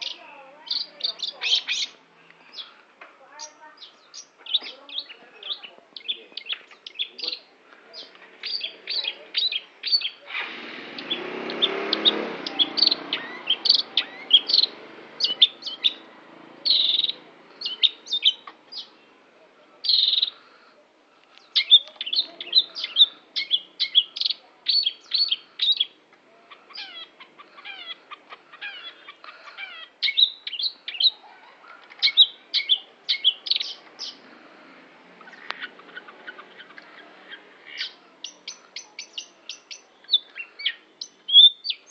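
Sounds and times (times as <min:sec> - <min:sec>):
bird chirps and trills: 0:00.0 - 0:19.1, 0:19.8 - 0:20.4, 0:21.4 - 0:34.3, 0:35.2 - 0:41.9.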